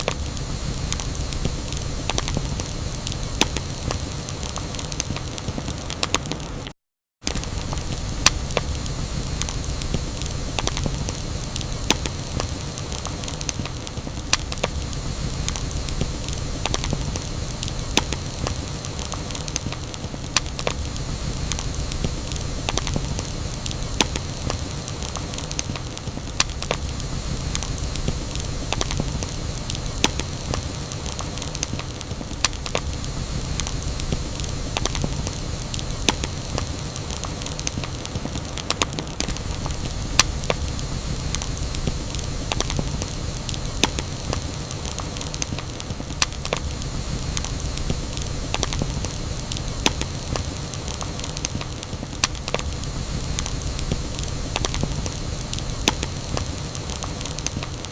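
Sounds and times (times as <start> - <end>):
flames rushing: 0.0 - 57.9
wood crackling and popping: 0.0 - 57.9.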